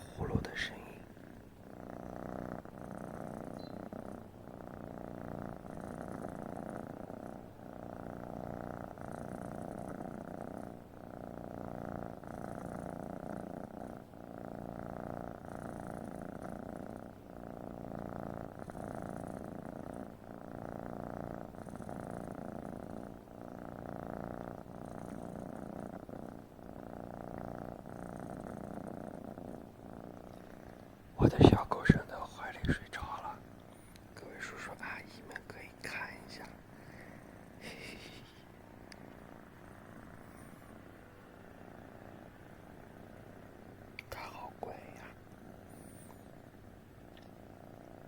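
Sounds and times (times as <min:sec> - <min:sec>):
cat purring: 0:00.0 - 0:48.0.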